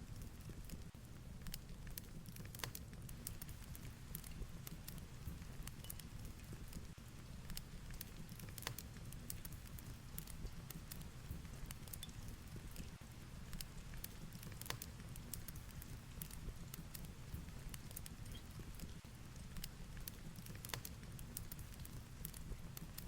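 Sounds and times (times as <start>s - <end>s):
fireplace crackling and popping: 0.0s - 23.0s.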